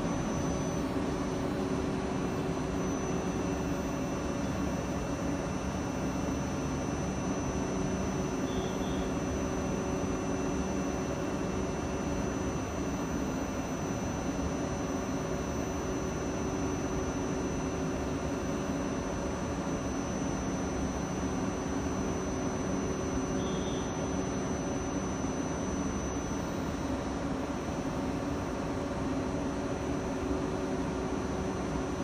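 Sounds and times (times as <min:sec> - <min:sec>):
thin constant whine: 0:00.0 - 0:32.0.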